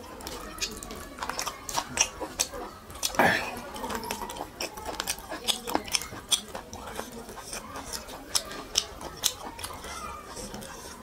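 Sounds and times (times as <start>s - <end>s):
fingers mashing sticky rice: 0.0s - 11.0s.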